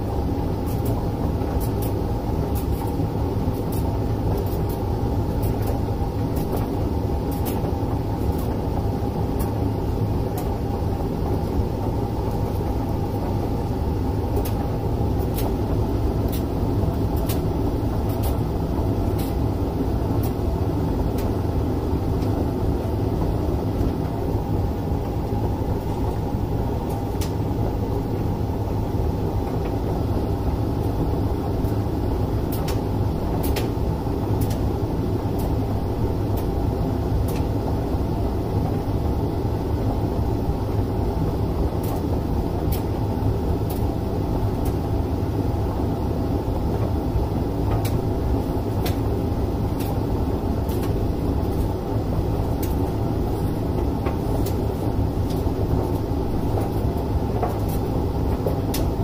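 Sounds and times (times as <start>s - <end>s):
washing machine rumbling: 0.0s - 59.0s.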